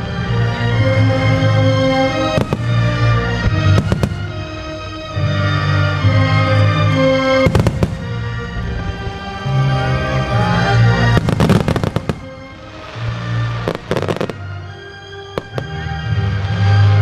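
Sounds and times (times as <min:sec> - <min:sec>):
music: 0:00.0 - 0:17.0
fireworks crackling bursts: 0:01.0 - 0:17.0
firework bangs: 0:01.5 - 0:05.3, 0:06.2 - 0:17.0.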